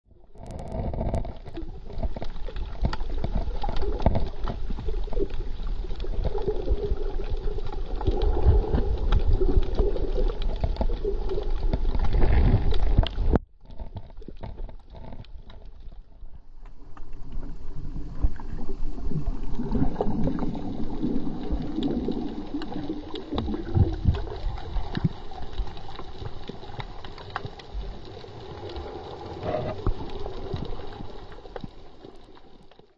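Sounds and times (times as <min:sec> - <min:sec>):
small underwater clicks and crackles: 0:00.1 - 0:32.9
underwater water gurgling: 0:00.1 - 0:32.9.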